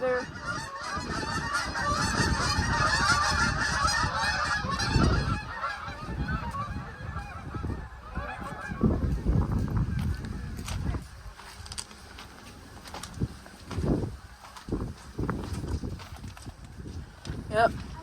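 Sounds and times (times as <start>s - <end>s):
geese honking: 0.0s - 18.0s
wind rumble on microphone: 0.0s - 18.0s.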